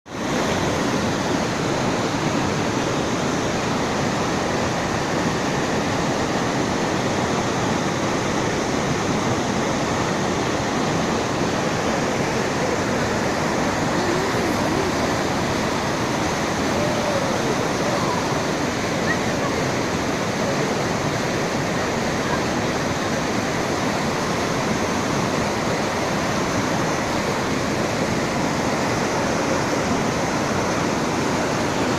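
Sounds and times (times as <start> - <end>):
rushing water: 0.1 - 31.9.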